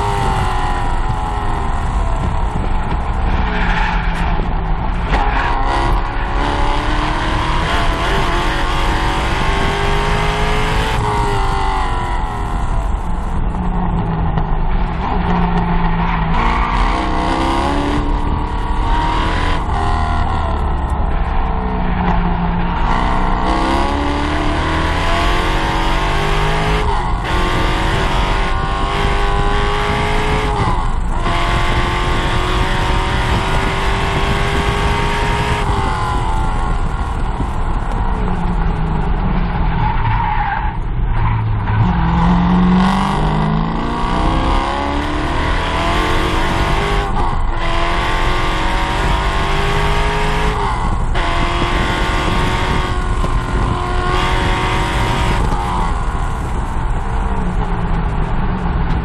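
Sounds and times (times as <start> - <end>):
car engine revving: 0.0 - 59.0
road and tyre noise: 0.0 - 59.0.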